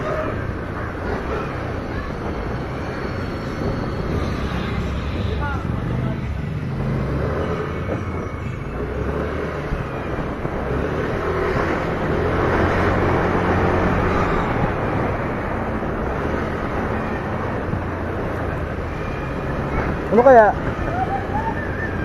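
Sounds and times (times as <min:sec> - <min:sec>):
motorcycle running at speed: 0:00.0 - 0:22.0
wind buffeting microphone: 0:00.0 - 0:22.0.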